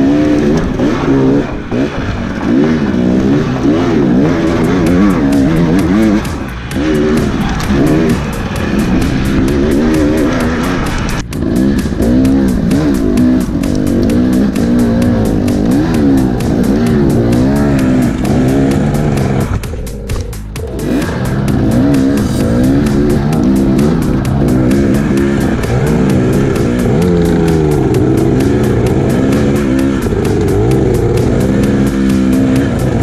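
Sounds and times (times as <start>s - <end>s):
dirt bike engine revving: 0.0s - 33.0s
rock music: 0.0s - 33.0s.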